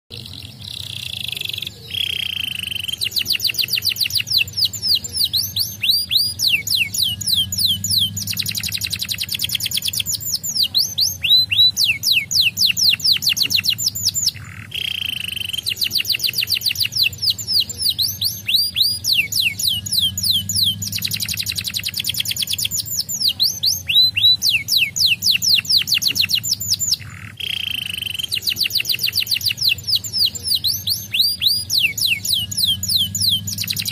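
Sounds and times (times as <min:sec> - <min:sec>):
canary singing: 0:00.1 - 0:33.9.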